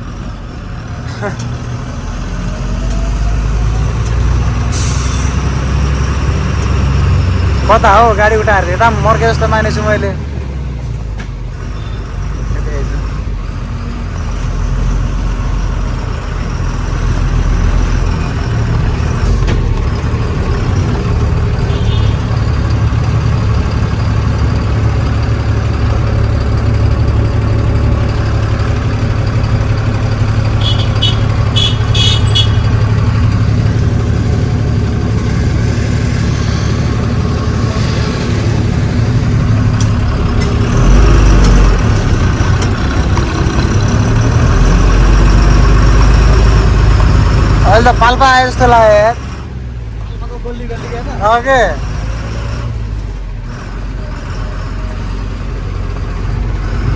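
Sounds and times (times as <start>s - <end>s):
truck engine running: 0.0s - 56.9s.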